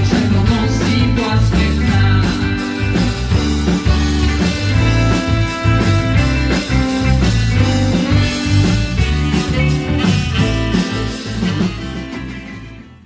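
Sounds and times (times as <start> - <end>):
bass guitar: 0.0 - 13.0
drums: 0.0 - 13.0
guitar: 0.0 - 13.0.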